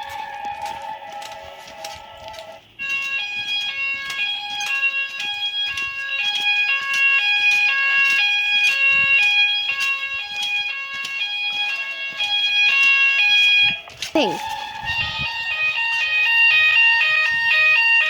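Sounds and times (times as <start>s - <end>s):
electronic fire alarm: 0.0s - 18.0s
steady alarm tone: 2.4s - 18.0s.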